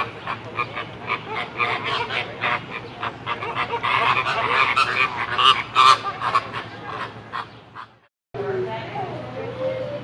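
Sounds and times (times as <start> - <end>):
birds calling: 0.0 - 8.1.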